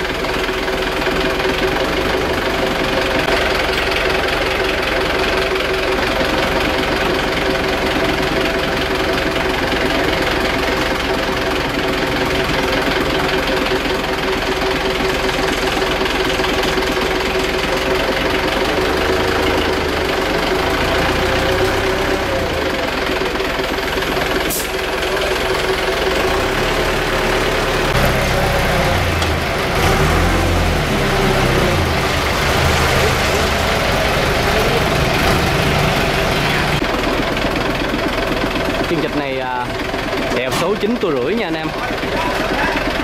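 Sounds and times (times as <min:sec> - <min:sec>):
crane engine running: 0:00.0 - 0:43.0.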